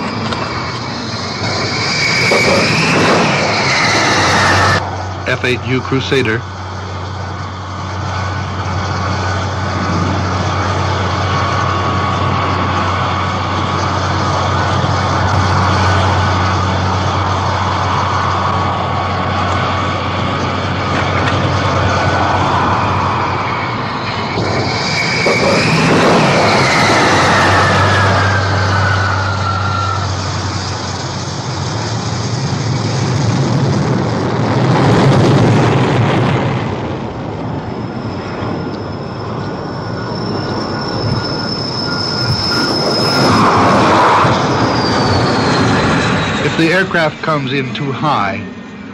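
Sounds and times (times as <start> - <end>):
high turbine whine: 0.0 - 48.9
jet engines running: 0.0 - 48.9.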